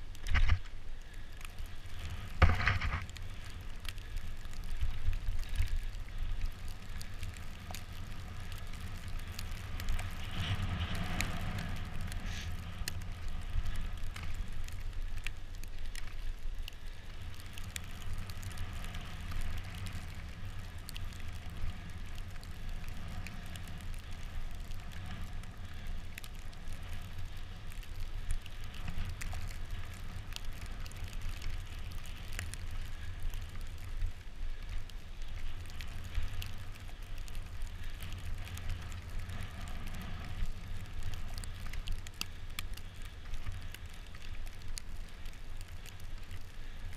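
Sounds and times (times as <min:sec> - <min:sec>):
bicycle tyres rumbling on snow: 0:00.0 - 0:46.9
snow crackling: 0:00.0 - 0:46.9.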